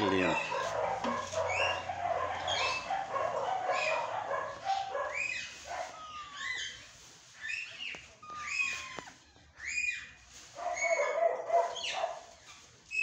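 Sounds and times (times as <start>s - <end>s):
parakeets chattering and squawking: 0.0s - 10.2s, 10.8s - 13.0s.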